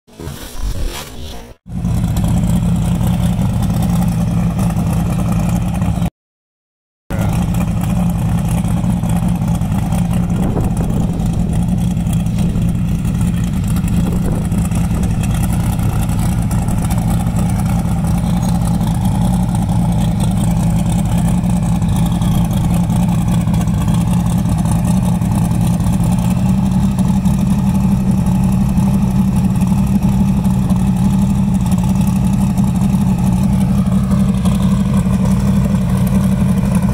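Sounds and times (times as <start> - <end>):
car engine idling: 1.7 - 6.1, 7.1 - 36.9.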